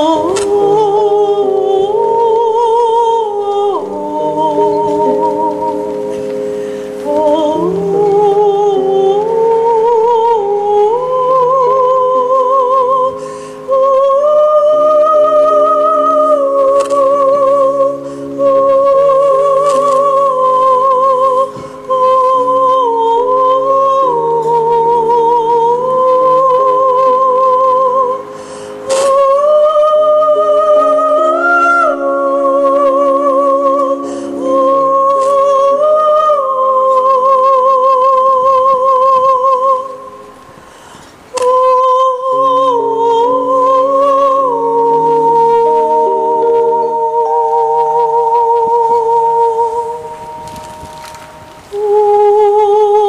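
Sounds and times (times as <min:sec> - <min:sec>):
soprano singing with vibrato: 0:00.0 - 0:53.0
sustained piano chords: 0:00.0 - 0:53.0.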